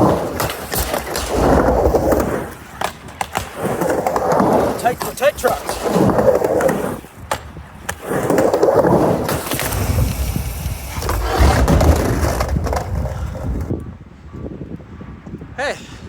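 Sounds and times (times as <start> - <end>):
skateboard sharp clacks: 0.0 - 13.8
skateboard wheels rolling on ramp: 0.0 - 14.0.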